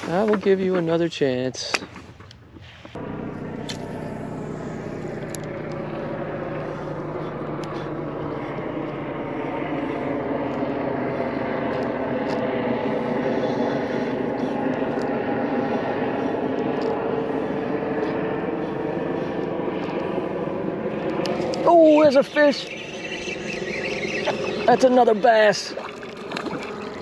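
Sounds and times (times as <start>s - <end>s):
boat motor running: 0.0s - 27.0s.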